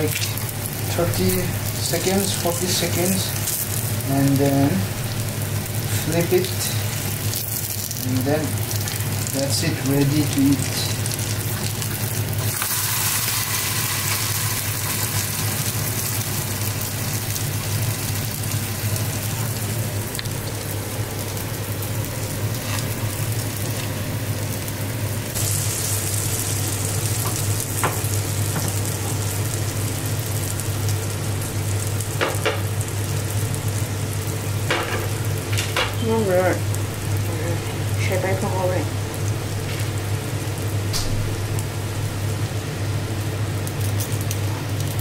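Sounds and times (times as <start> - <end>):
batter sizzling in hot oil: 0.0 - 45.0
steady low hum: 0.0 - 45.0.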